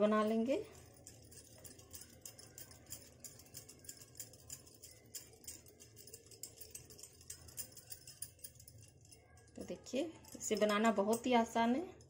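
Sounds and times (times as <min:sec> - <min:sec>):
bangles clinking: 0:00.1 - 0:12.0.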